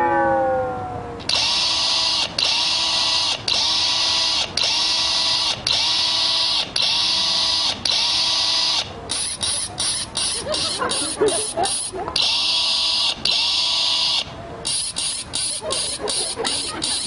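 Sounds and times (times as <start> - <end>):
harsh buzzing synth: 1.3 - 17.0.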